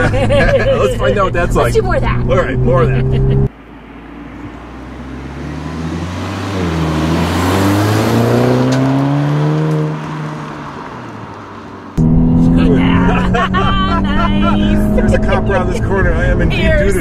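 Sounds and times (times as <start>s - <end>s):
car accelerating hard past: 2.2s - 16.6s.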